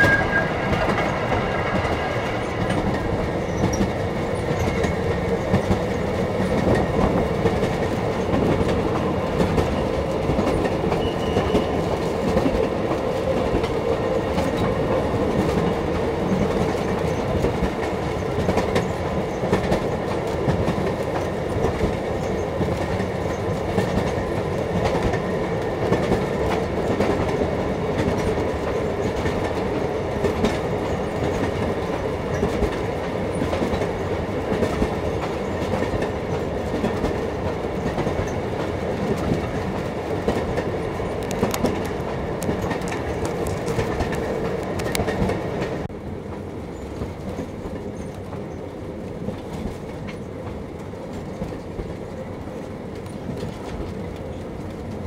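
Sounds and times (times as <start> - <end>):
train car rumbling on track: 0.0 - 55.0
train wheels clicking over rail joints: 0.0 - 55.0.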